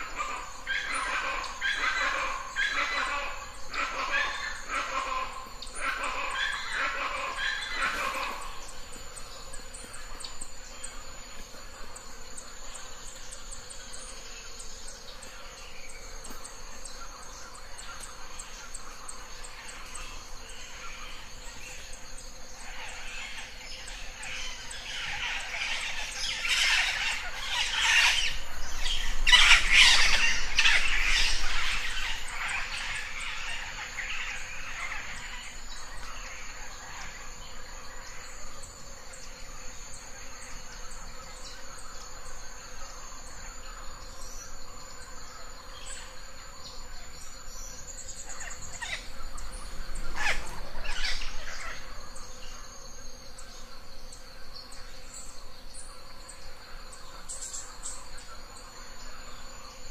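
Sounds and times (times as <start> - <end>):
birds calling: 0.0 - 55.3
insects buzzing: 0.0 - 59.9.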